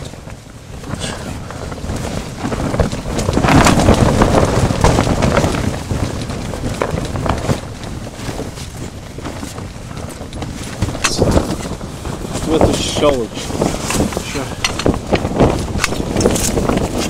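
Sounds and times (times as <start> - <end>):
tent fabric rustling and flapping: 0.0 - 17.0
wind buffeting microphone: 0.0 - 17.0.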